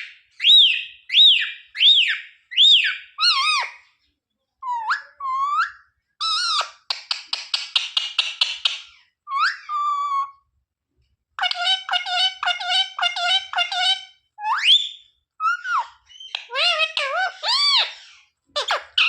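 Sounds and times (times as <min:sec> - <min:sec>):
parrot calling: 0:00.0 - 0:03.9, 0:04.6 - 0:06.8, 0:08.2 - 0:10.4, 0:11.4 - 0:19.0.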